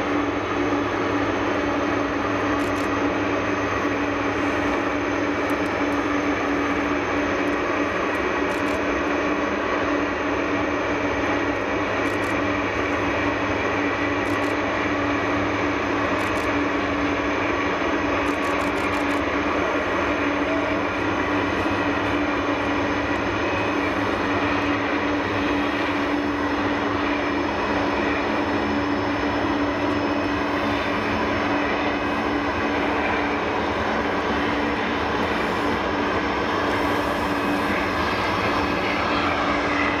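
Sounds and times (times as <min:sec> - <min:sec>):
jet engines idling: 0:00.0 - 0:40.0.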